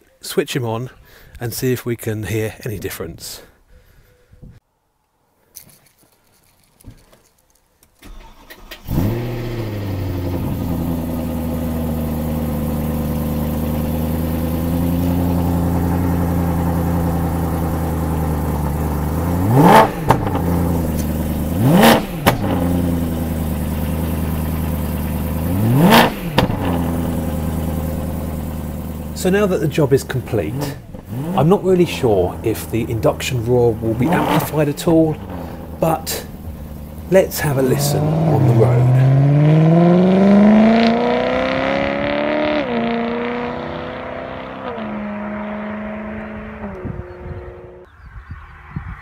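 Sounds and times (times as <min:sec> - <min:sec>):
car engine starting and idling: 0:08.0 - 0:47.9
engine revving: 0:08.0 - 0:47.9.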